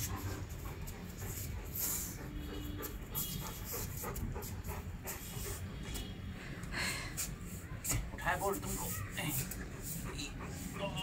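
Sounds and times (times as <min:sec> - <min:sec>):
dog panting: 0:00.0 - 0:06.4, 0:08.2 - 0:11.0.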